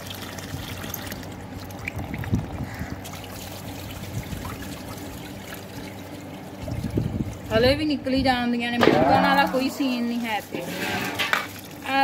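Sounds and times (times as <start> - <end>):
water pouring from a hose: 0.0 - 7.8, 9.8 - 12.0.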